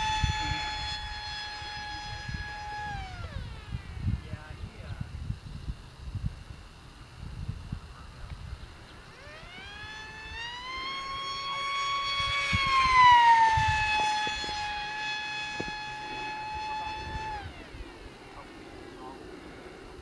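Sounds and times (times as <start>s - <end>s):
model jet motor whining: 0.0s - 20.0s.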